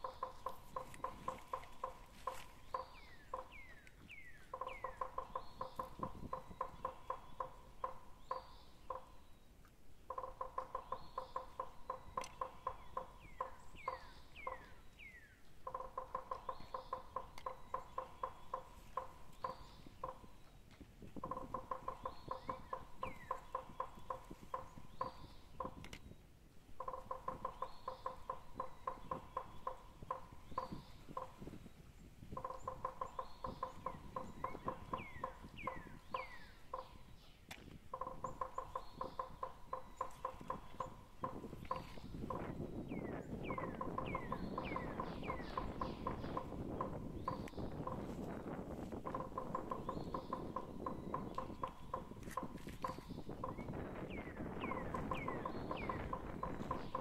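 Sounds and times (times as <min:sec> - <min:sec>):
repeated pulsed animal notes: 0:00.0 - 0:57.0.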